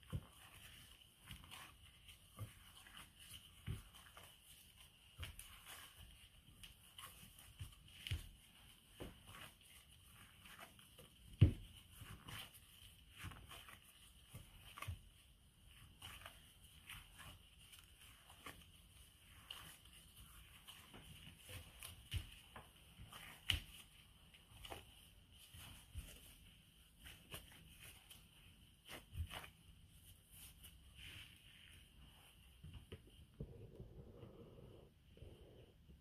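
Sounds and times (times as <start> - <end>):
gloved hand mixing dough: 0.0 - 36.0.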